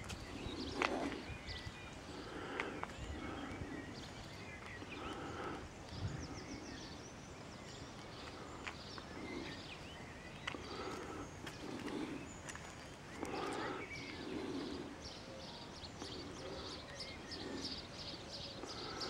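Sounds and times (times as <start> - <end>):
faint outdoor background noise: 0.0 - 19.0
small birds chirping: 0.0 - 19.0.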